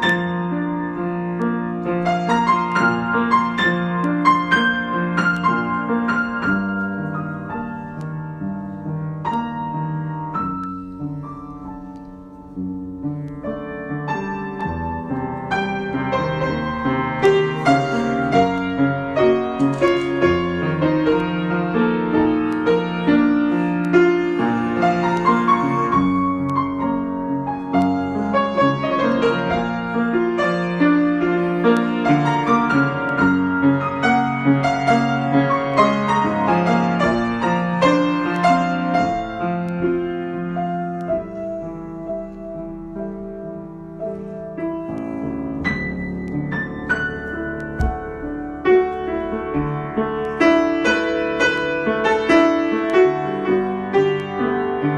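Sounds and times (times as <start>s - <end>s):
piano improvisation: 0.0s - 54.9s.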